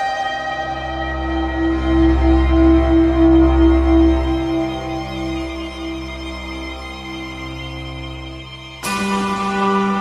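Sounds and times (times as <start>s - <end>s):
slow sustained chord music: 0.0s - 10.0s.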